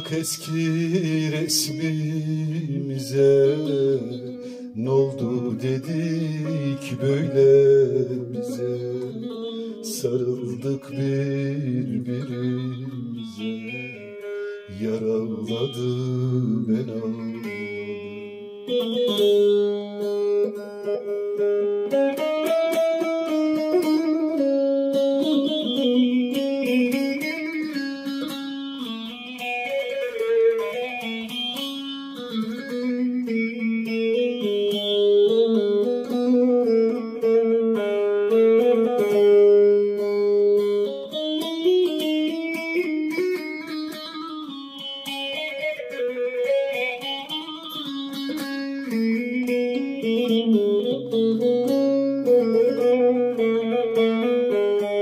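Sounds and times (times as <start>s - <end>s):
plucked long-necked lute melody: 0.0s - 55.0s.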